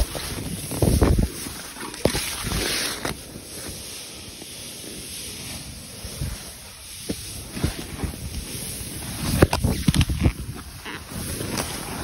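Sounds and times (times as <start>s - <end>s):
snowboard sliding through snow: 0.0s - 12.0s
wind on microphone: 0.0s - 12.0s.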